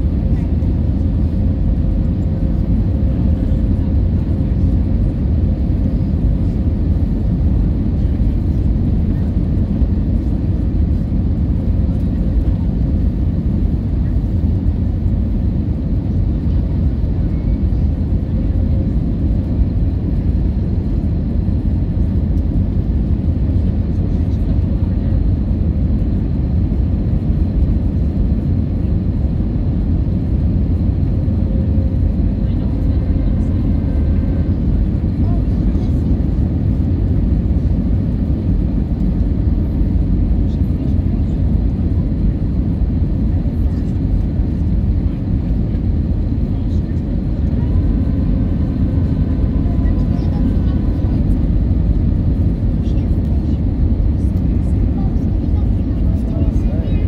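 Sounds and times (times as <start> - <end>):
jet airliner cabin rumble: 0.0 - 57.0.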